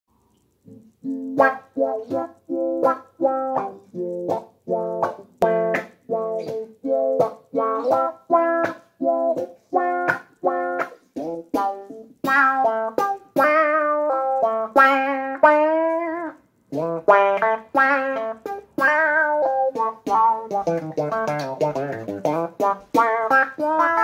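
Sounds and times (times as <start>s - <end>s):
electric guitar riff with wah sweep: 0.6s - 24.0s.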